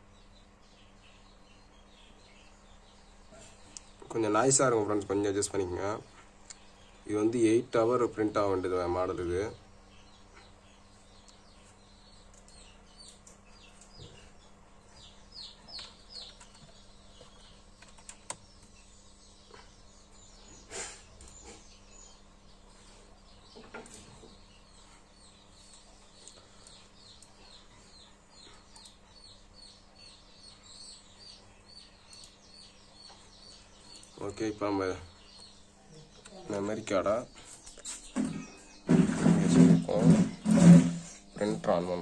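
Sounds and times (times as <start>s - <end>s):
faint birds chirping: 0.0s - 42.0s.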